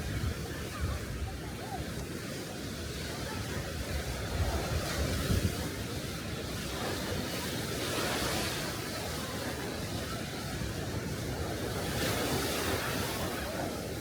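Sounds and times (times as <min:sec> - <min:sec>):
sea waves washing onto beach: 0:00.0 - 0:14.0
wind rumbling on microphone: 0:00.0 - 0:14.0.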